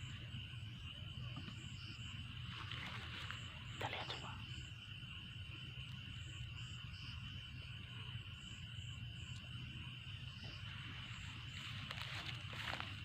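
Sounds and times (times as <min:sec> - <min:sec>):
frogs chirping: 0:00.0 - 0:13.0
insects buzzing: 0:00.0 - 0:13.0.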